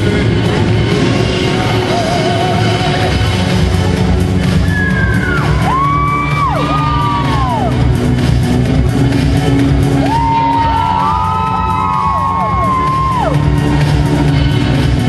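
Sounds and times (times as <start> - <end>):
music over sound system: 0.0 - 15.0.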